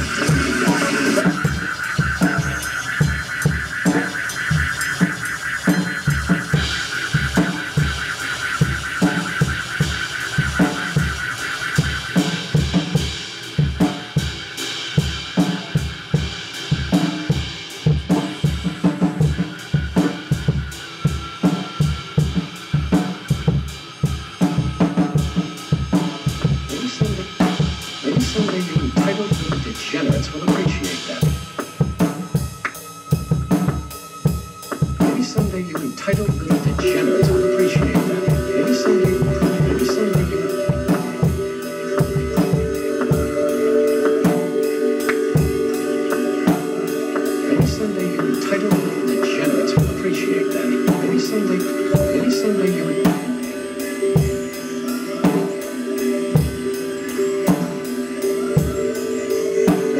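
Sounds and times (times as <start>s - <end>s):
drum kit playing fast: 0.0s - 59.9s
live band playing loud: 0.0s - 59.9s
ringing cymbals: 0.0s - 59.9s
sustained pitched notes: 0.0s - 59.9s.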